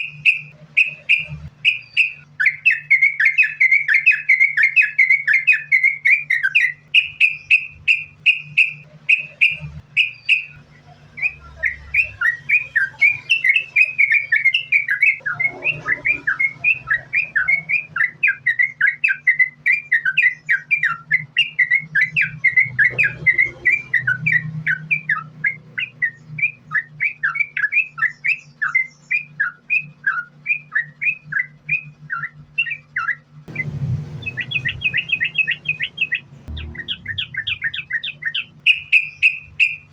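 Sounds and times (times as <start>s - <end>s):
bird chirping song: 0.0s - 39.9s
steady low hum: 0.0s - 39.9s.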